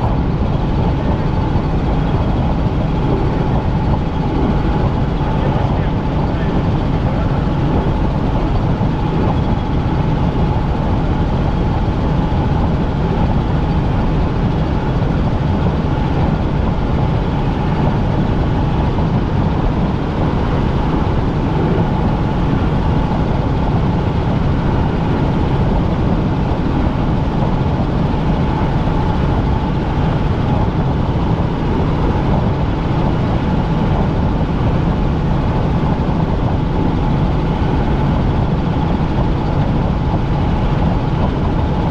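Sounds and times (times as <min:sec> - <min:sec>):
helicopter drone inside cabin: 0:00.0 - 0:41.9.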